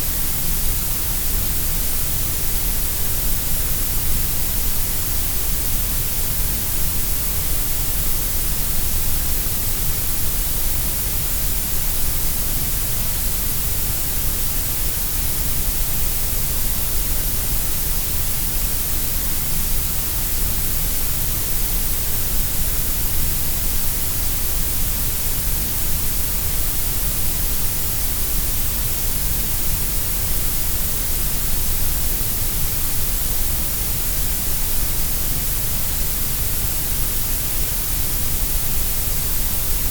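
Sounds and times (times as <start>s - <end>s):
synthesised grey noise hiss: 0.0s - 39.9s.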